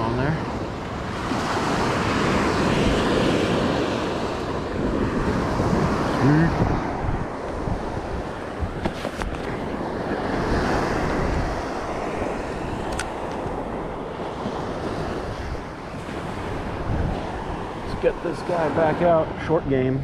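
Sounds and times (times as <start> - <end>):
surf waves breaking: 0.0 - 20.0
wind buffeting microphone: 0.0 - 20.0.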